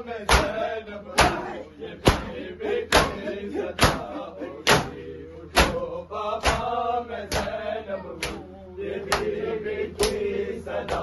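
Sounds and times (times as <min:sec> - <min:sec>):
men chanting: 0:00.0 - 0:11.0
men slapping chests in unison: 0:00.2 - 0:08.5, 0:09.1 - 0:09.4, 0:10.0 - 0:11.0.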